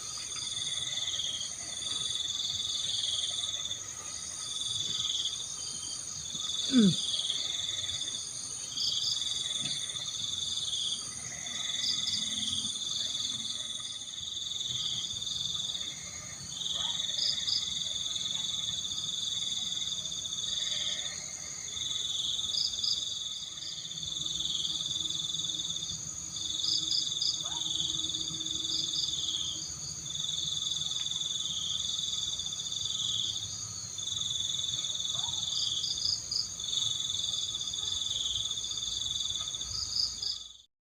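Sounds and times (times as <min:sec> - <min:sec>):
high-pitched insect trills: 0:00.0 - 0:40.6
lower insect trill: 0:00.0 - 0:40.7.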